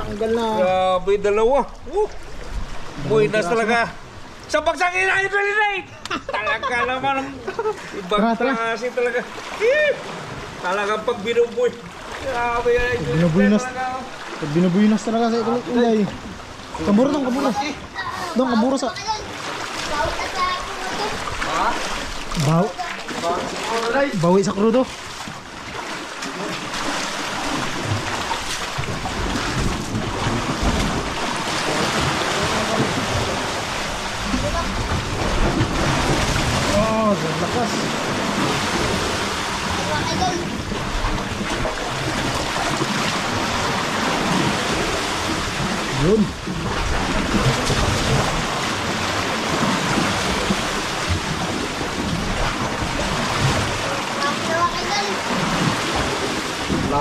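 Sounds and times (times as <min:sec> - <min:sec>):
sea water rushing: 0:00.0 - 0:57.0.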